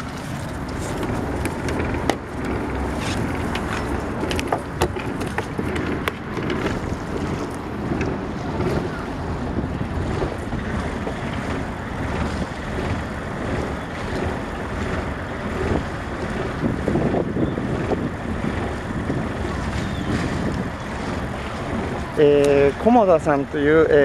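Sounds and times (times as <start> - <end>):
boat engine running: 0.0 - 24.0
water along hull: 0.0 - 24.0
wind buffeting microphone: 0.0 - 24.0.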